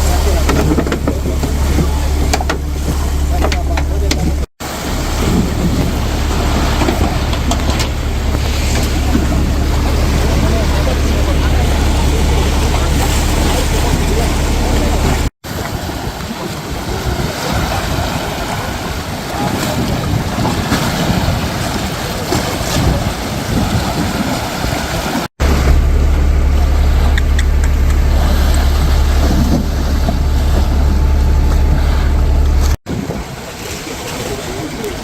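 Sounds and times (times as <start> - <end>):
surf on beach: 0.0 - 35.0
wind on microphone: 0.0 - 35.0.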